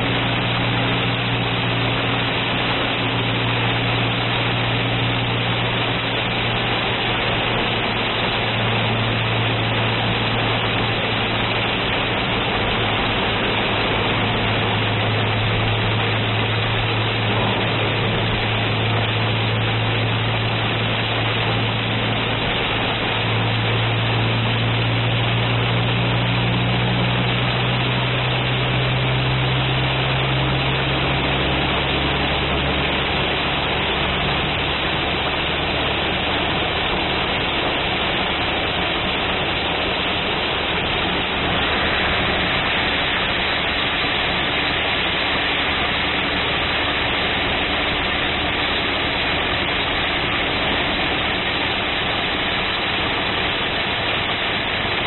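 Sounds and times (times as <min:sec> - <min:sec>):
heavy rain on a car: 0:00.0 - 0:55.0
low engine hum: 0:00.0 - 0:55.0.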